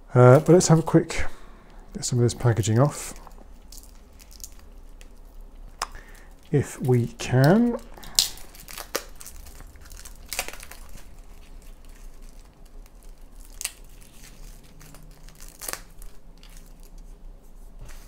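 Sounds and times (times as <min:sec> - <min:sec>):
plastic film peeling and crinkling: 0:00.1 - 0:01.2, 0:02.0 - 0:18.0
sharp plastic crackles: 0:01.7 - 0:17.2.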